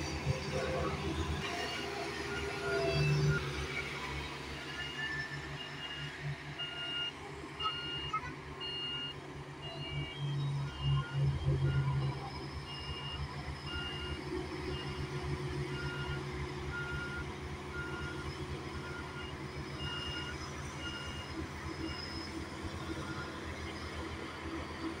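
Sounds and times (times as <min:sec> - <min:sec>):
road roller diesel drone: 0:00.0 - 0:25.0
two-tone reversing alarm beeps: 0:01.5 - 0:24.0.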